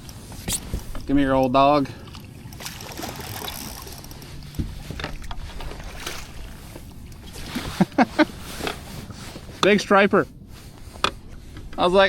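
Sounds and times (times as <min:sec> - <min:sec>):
water sloshing and splashing: 0:00.0 - 0:11.6.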